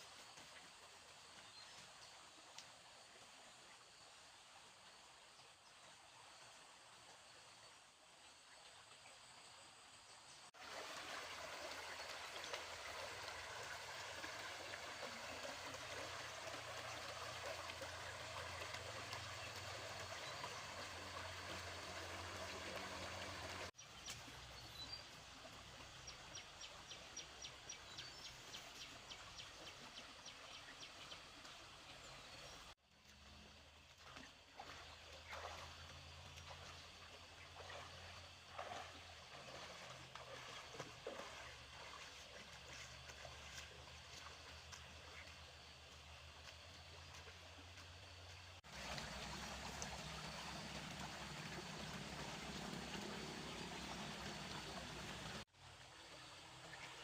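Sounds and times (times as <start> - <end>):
water flowing and trickling: 0.0 - 57.0.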